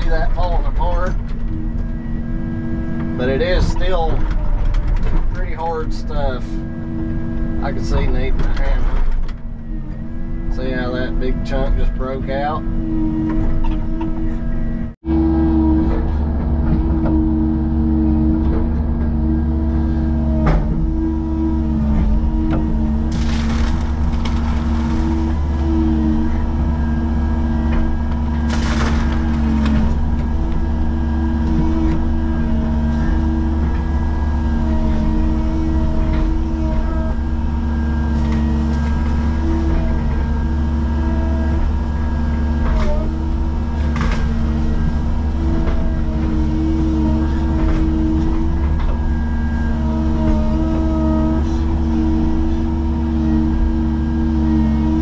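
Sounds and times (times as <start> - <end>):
excavator diesel engine running: 0.0 - 55.0
hydraulic whine: 0.0 - 55.0.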